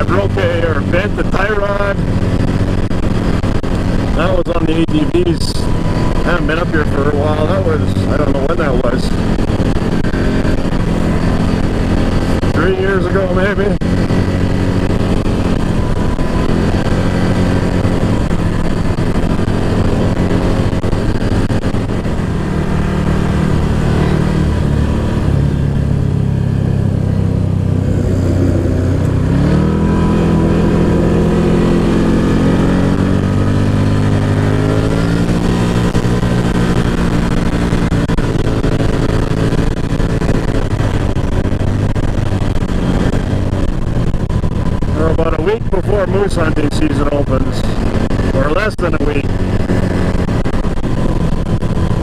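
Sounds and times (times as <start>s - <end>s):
atv engine accelerating: 0.0s - 52.0s.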